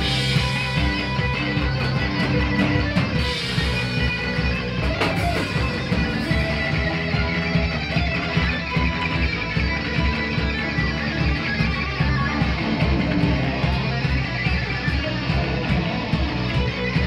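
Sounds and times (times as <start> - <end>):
bass guitar: 0.0 - 17.0
distorted electric guitar: 0.0 - 17.0
driving drums: 0.0 - 17.0.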